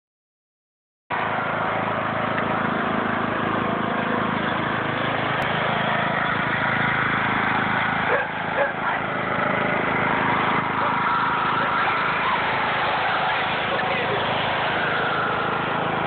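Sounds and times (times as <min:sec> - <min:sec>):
riding lawn mower engine running: 0:01.1 - 0:16.0.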